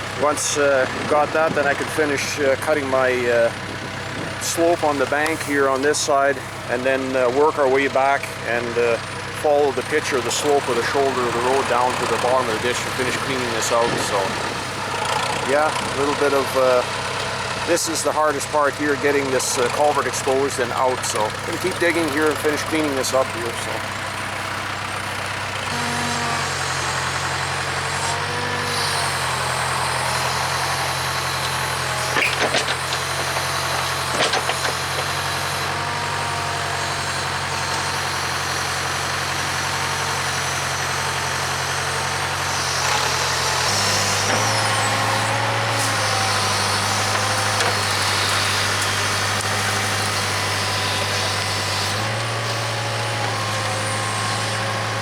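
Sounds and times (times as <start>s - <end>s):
backhoe diesel engine under load: 0.0s - 55.0s
hydraulics whining: 0.0s - 55.0s.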